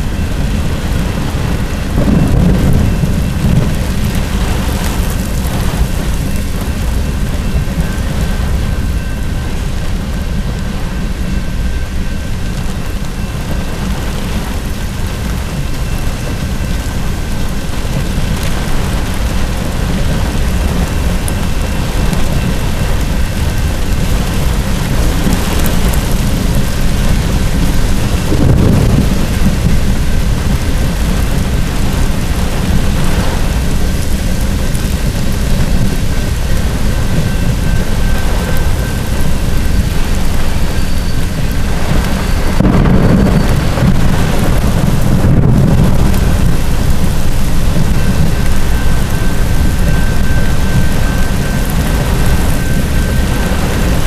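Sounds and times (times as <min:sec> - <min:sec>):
deep rumble: 0:00.0 - 0:54.0
heavy rain on a car: 0:00.0 - 0:54.0
steady low rumble: 0:00.0 - 0:54.0.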